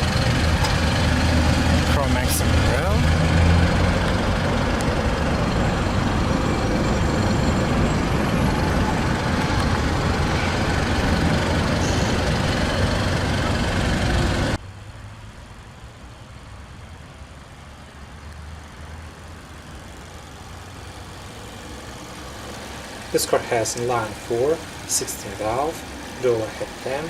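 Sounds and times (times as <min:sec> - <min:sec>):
loud rushing vehicle noise: 0:00.0 - 0:27.0.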